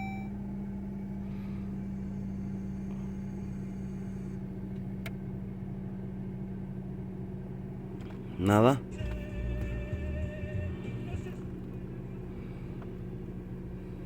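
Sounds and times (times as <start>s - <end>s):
car engine humming: 0.0s - 14.0s.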